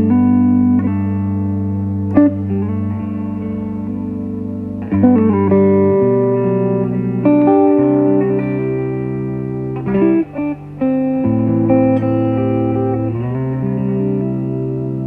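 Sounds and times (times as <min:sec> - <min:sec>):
music with held chords: 0:00.0 - 0:15.0.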